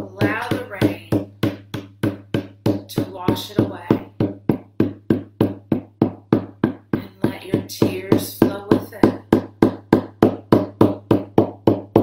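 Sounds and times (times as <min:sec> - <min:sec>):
frame drum beaten: 0:00.0 - 0:12.0.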